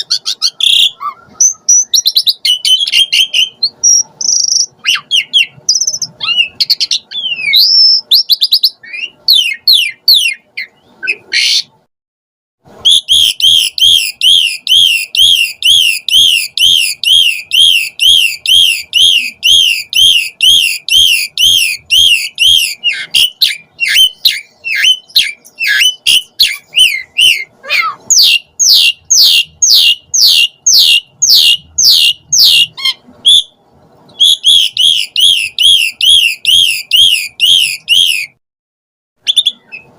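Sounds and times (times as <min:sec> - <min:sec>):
starling singing: 0:00.0 - 0:11.8, 0:12.8 - 0:38.4.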